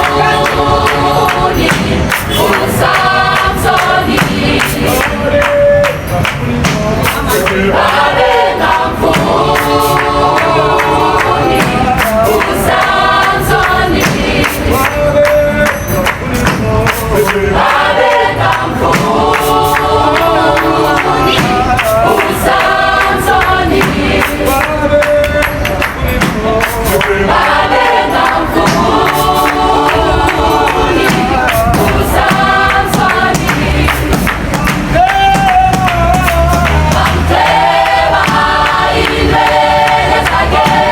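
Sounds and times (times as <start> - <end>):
choir singing in harmony: 0.0 - 40.9
steady percussion: 0.0 - 40.9.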